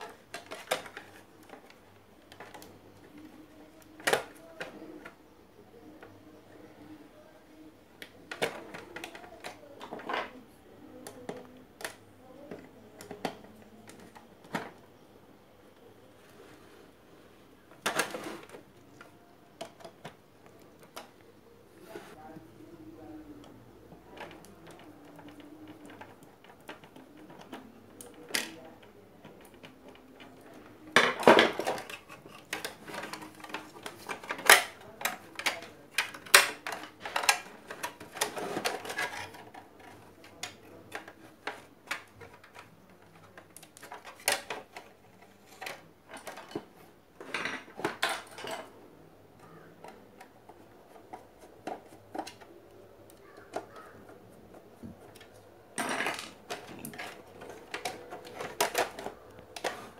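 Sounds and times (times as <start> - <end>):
plastic and metal parts clattering: 0.0 - 3.3, 8.2 - 14.8, 17.7 - 21.1, 23.9 - 59.9.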